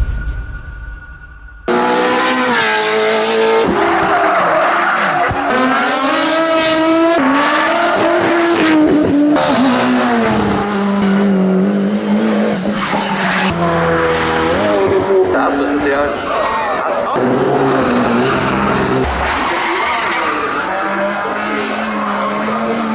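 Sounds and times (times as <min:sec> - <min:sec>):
race car engines at full throttle: 0:01.6 - 0:22.9.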